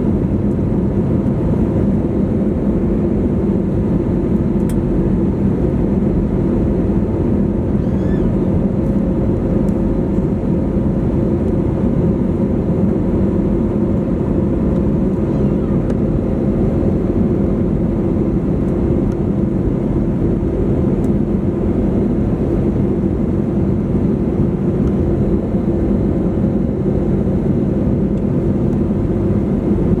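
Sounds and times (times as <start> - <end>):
jet engine drone: 0.0 - 30.0.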